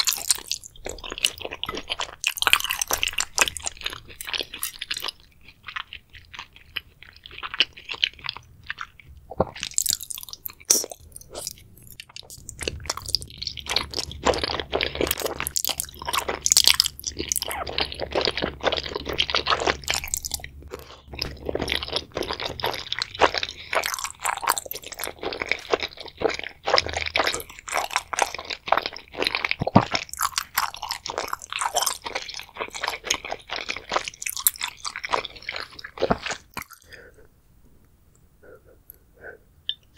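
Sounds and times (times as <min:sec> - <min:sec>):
person chewing noodles: 0:00.0 - 0:37.4.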